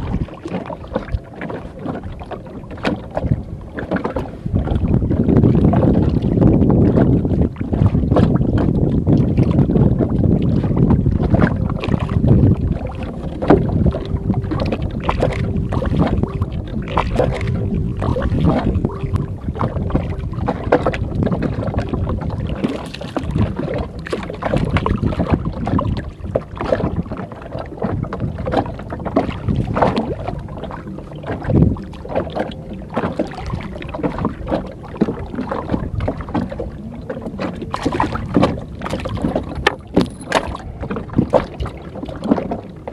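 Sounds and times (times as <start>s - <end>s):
knocks and clicks from hull: 0.0s - 42.9s
water noise: 0.0s - 42.9s
wind on microphone: 0.0s - 42.9s.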